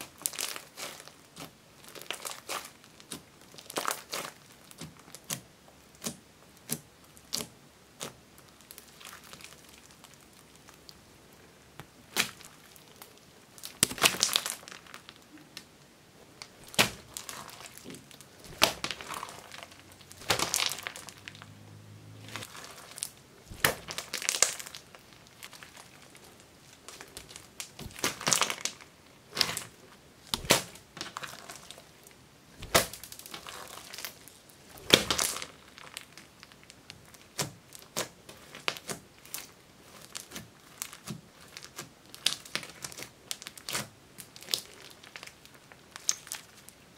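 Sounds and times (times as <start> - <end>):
slime crackling and popping: 0.0 - 11.1, 11.7 - 46.9.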